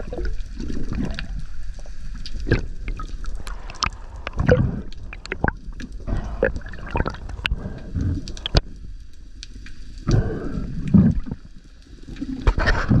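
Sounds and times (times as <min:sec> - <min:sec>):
underwater gurgling and sloshing: 0:00.0 - 0:13.0.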